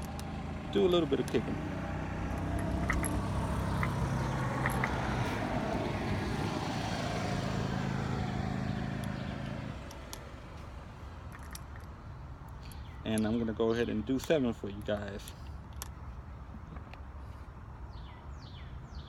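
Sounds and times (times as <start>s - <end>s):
vehicle engine humming: 0.0s - 17.7s.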